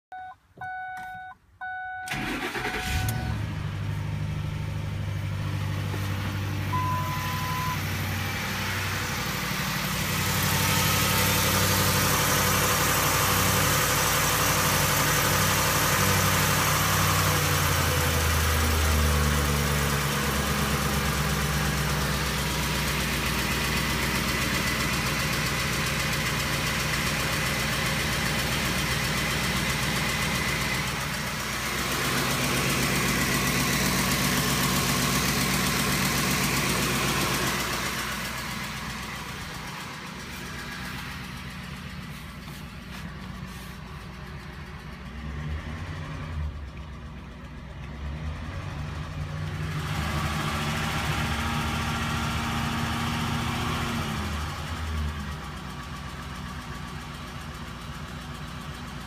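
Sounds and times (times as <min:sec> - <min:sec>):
engine starting and idling unevenly: 0:00.2 - 0:59.0.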